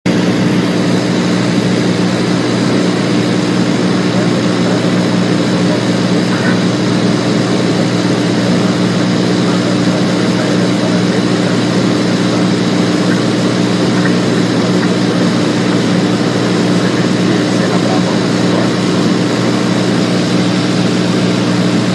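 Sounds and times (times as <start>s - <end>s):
propeller plane engine droning: 0.0s - 21.9s.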